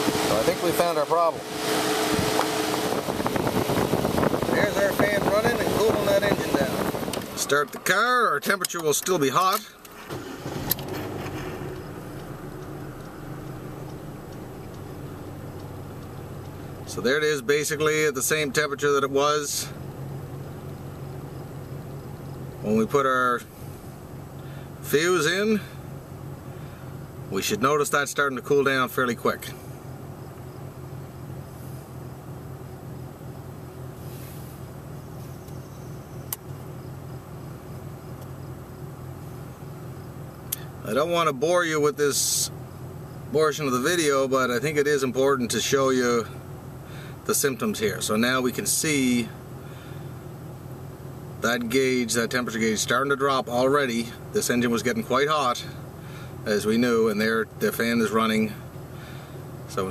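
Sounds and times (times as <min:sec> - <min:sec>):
car engine idling: 0:00.0 - 0:59.9
cooling fan humming: 0:00.0 - 0:59.9.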